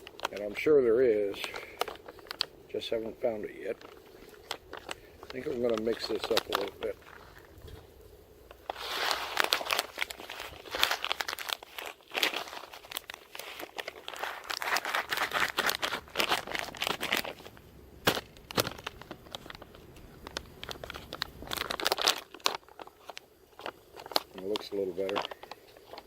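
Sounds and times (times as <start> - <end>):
food pouch rustling: 0.0 - 26.0.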